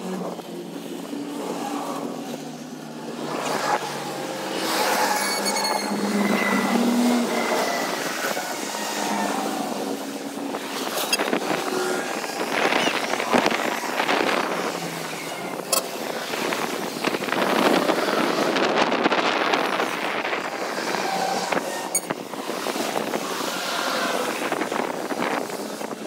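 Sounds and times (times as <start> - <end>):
highway traffic passing: 0.0 - 26.0.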